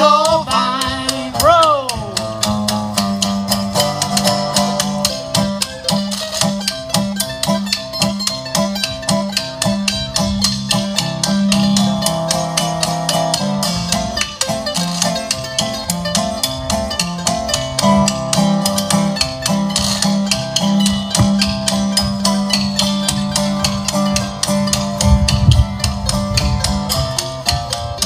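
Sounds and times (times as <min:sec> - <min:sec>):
mandolin picking: 0:00.0 - 0:28.0
resonator guitar picking: 0:00.0 - 0:28.0
washboard rhythm: 0:00.0 - 0:28.0.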